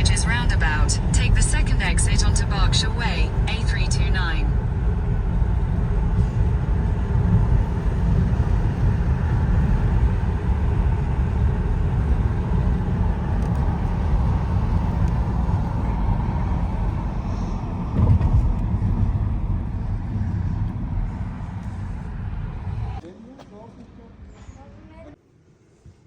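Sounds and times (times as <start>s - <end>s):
car driving on road: 0.0s - 23.0s.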